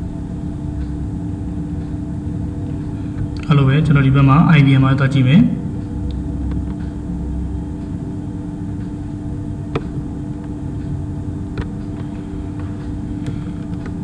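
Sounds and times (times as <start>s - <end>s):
rumbling background noise: 0.0s - 14.0s
steady electrical hum: 0.0s - 14.0s.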